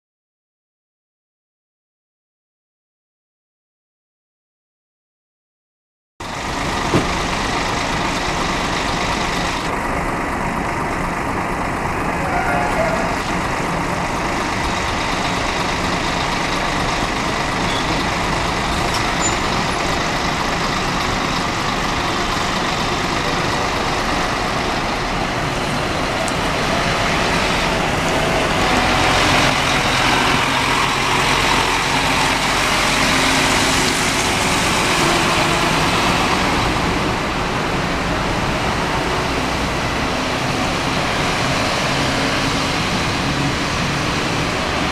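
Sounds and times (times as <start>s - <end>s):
bus diesel engine passing: 6.2s - 44.9s.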